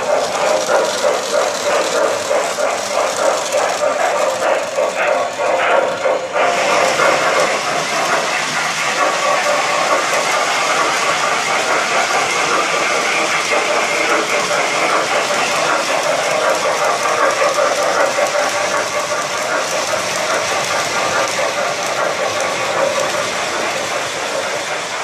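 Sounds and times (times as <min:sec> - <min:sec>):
model locomotive motor: 0:00.0 - 0:25.0
model train wheels rattling on rails: 0:00.0 - 0:25.0.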